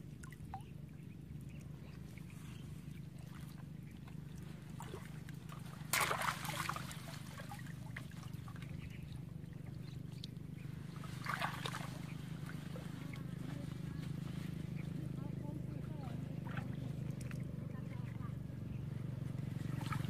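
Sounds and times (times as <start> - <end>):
shallow water sloshing and splashing: 0.0 - 18.2, 19.1 - 20.0.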